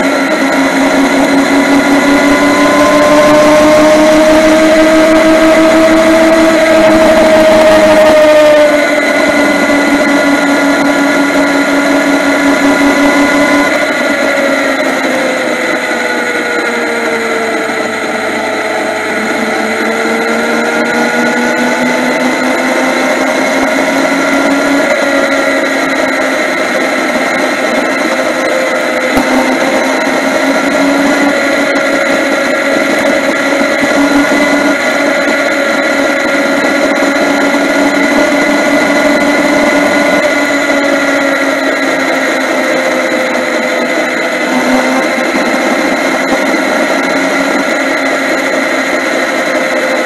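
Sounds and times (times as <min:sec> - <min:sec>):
motorcycle engine cruising: 0:00.0 - 0:50.0
road and wind noise: 0:00.0 - 0:50.0.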